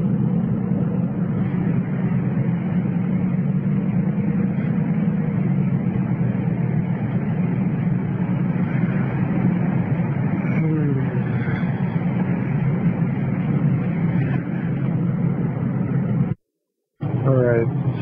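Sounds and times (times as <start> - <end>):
car engine running: 0.0 - 16.4, 17.0 - 18.0
tyre and road noise: 0.0 - 16.4.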